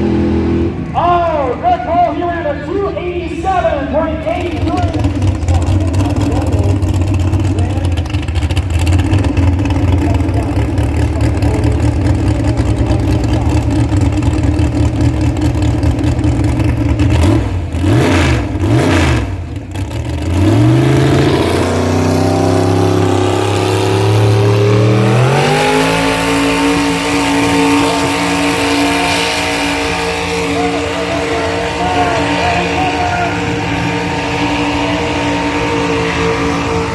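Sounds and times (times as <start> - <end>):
big vehicle engine running: 0.0 - 36.9.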